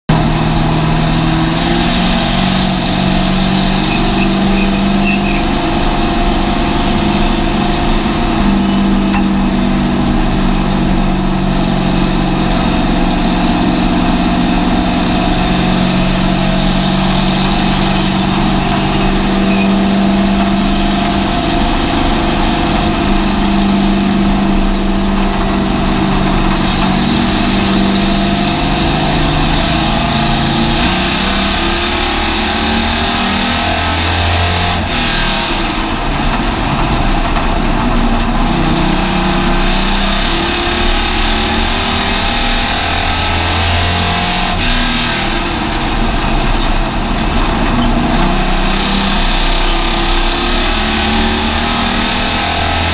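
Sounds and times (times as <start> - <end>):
race car engine from inside cabin: 0.1 - 52.9
road and wind rumble: 0.1 - 52.9.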